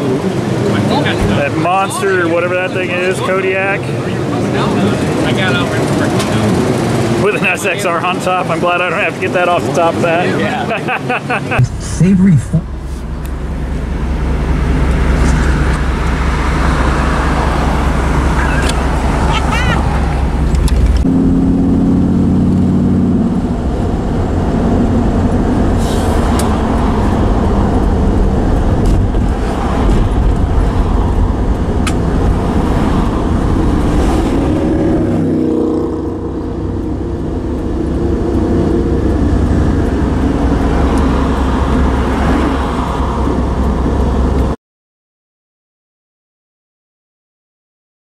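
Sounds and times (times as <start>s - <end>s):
vehicle engine rumbling: 0.0s - 44.6s.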